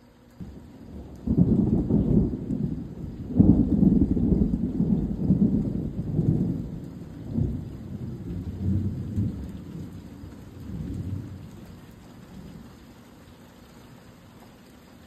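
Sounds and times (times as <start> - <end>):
faint rain hiss: 0.0 - 15.0
thunder rolling: 0.4 - 12.6.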